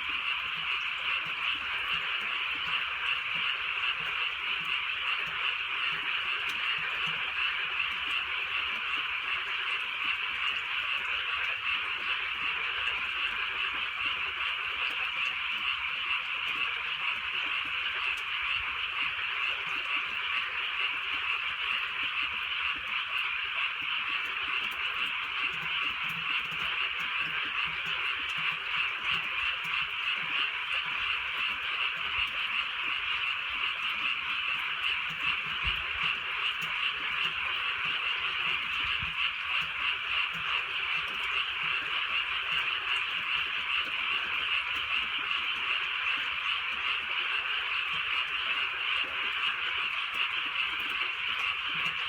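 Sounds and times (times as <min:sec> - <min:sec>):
chorus of frogs calling: 0:00.0 - 0:52.0.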